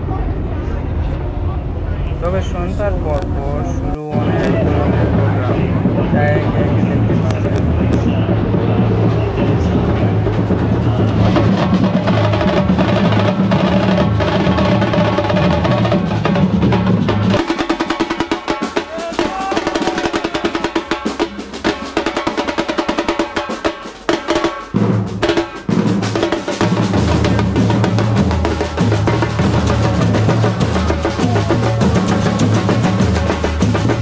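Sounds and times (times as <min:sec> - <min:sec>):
bass drums: 0:02.1 - 0:34.0
snare drums: 0:04.0 - 0:34.0.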